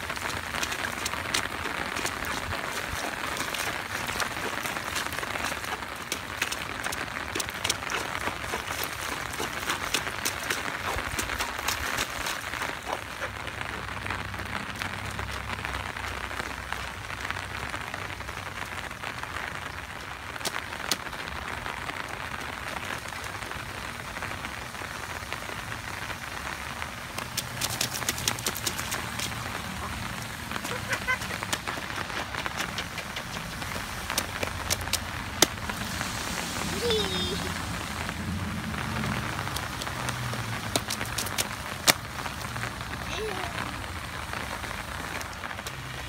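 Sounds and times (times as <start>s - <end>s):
rain boots splashing in puddles: 0.0s - 46.0s
rain on wet pavement: 0.0s - 46.0s.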